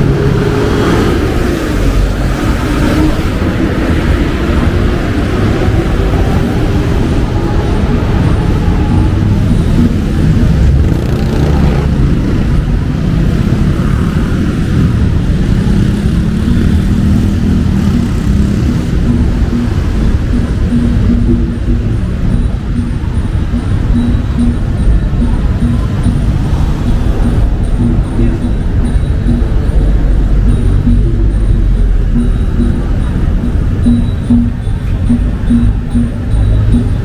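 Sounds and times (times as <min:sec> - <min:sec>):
heavy road traffic: 0:00.0 - 0:37.0.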